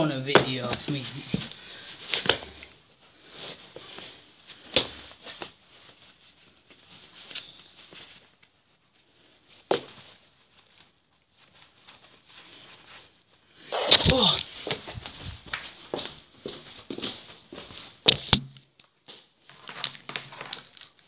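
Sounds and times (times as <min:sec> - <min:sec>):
soft rustling: 0:00.0 - 0:18.1.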